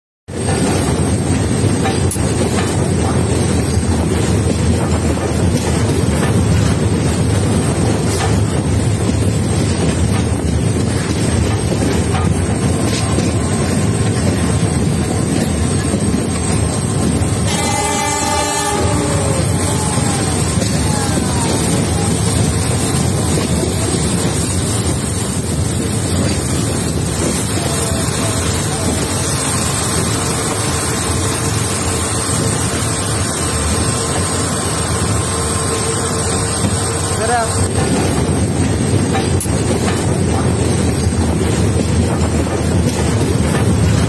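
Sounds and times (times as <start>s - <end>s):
train rumbling on track: 0.3s - 44.0s
wind buffeting microphone: 0.3s - 44.0s.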